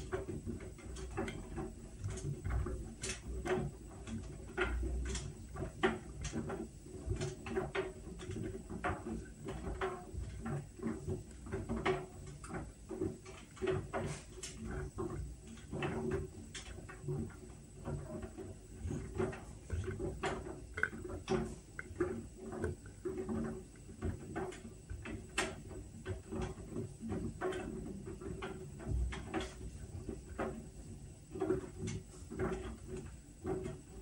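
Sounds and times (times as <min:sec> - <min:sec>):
washing machine motor hum: 0:00.0 - 0:34.0.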